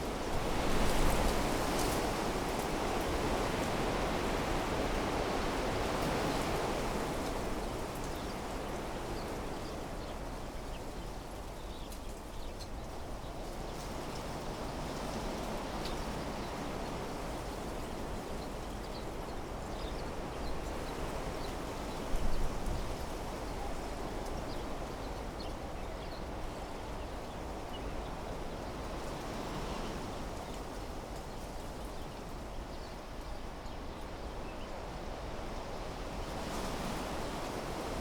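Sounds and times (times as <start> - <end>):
wind blowing through trees: 0.0 - 38.0.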